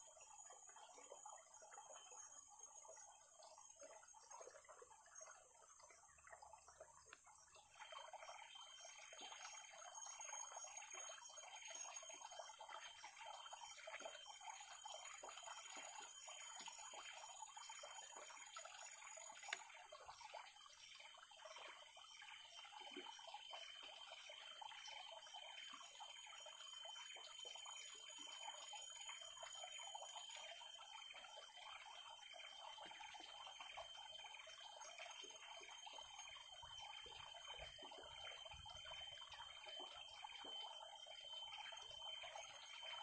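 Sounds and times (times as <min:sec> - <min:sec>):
high-pitched insect tones: 0:07.3 - 0:43.0.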